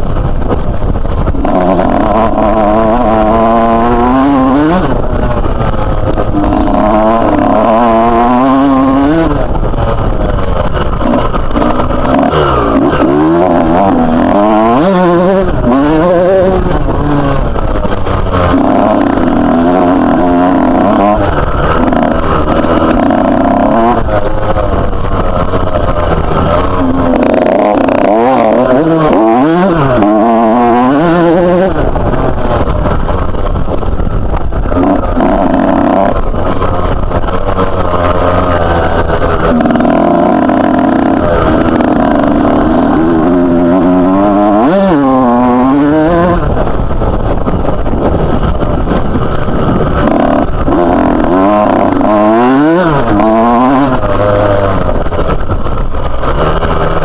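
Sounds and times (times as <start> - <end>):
two-stroke motorbike engine revving: 0.0 - 57.0.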